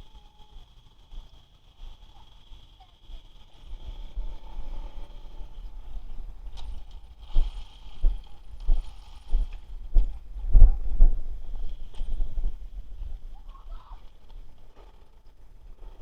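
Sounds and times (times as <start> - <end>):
rc truck rumbling: 0.0 - 16.0.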